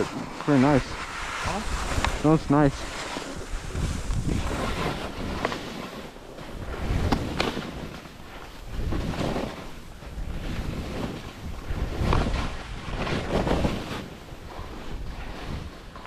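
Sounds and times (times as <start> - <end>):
wind rushing over microphone: 0.0 - 15.9
skis scraping over snow: 0.0 - 16.0.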